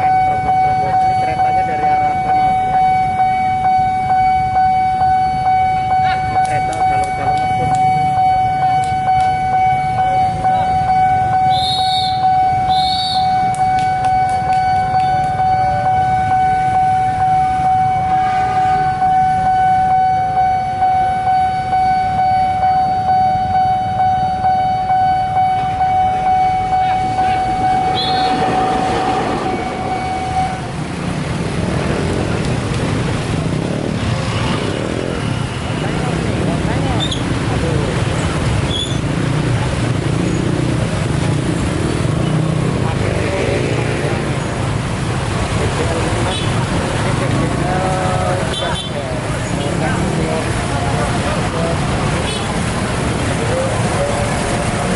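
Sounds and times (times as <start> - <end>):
level-crossing warning siren: 0.0 - 32.3, 32.9 - 54.9
passing train rumble: 0.0 - 54.9.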